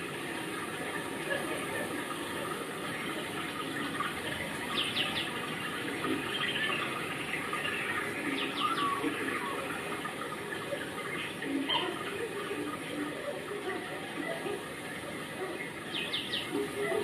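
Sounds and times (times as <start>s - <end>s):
rain falling and splashing: 0.0s - 17.0s.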